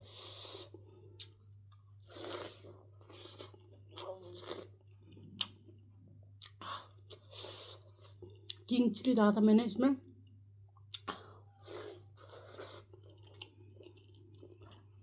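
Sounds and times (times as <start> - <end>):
faint low hum: 0.0 - 15.0
chewing and crunching food: 0.4 - 8.7, 10.8 - 15.0.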